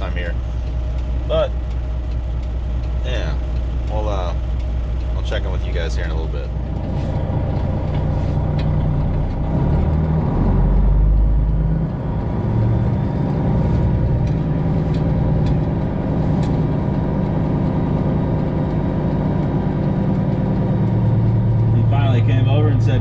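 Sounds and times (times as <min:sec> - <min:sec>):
diesel truck engine rumble: 0:00.0 - 0:23.0.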